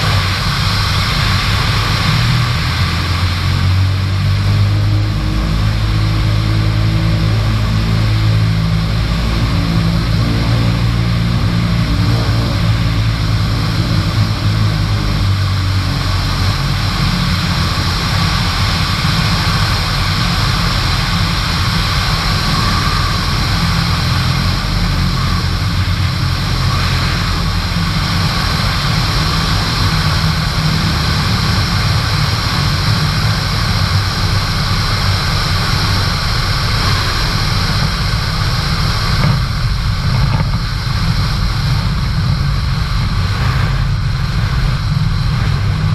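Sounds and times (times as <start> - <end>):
aircraft engine and propeller droning: 0.0 - 45.9
wind rush: 0.0 - 45.9.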